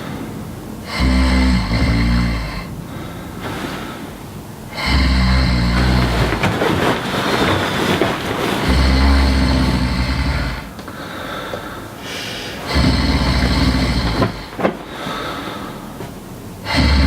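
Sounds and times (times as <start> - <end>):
man snoring: 0.8 - 4.0, 4.7 - 11.4, 12.1 - 15.8, 16.6 - 17.0.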